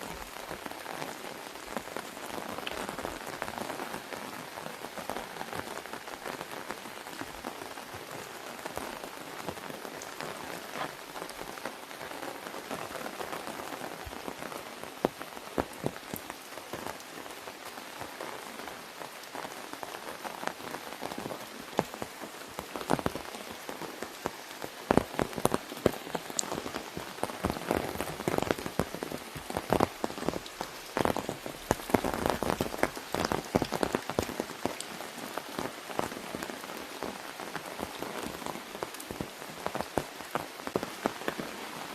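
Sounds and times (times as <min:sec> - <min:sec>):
rain on an umbrella: 0:00.0 - 0:41.9.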